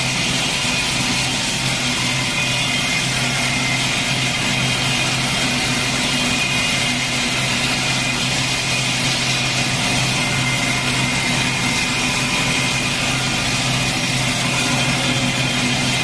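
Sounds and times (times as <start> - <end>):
lathe motor hum: 0.0 - 16.0.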